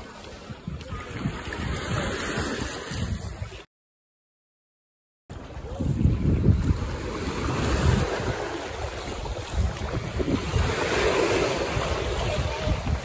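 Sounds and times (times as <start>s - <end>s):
sea waves breaking over rocks: 0.0s - 3.6s, 5.3s - 13.0s
wind buffeting microphone: 0.1s - 3.6s, 5.3s - 13.0s.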